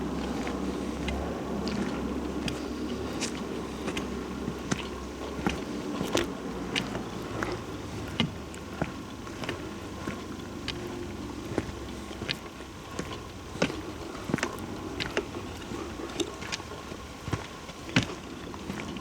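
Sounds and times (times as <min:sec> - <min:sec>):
footsteps on forest trail: 0:00.0 - 0:19.0.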